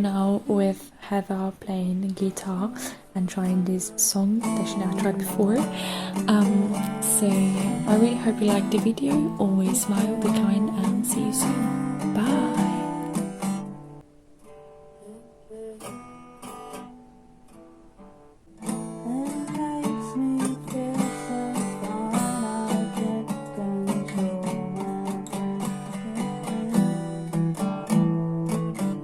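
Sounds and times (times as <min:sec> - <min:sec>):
acoustic guitar playing: 0:00.0 - 0:29.0.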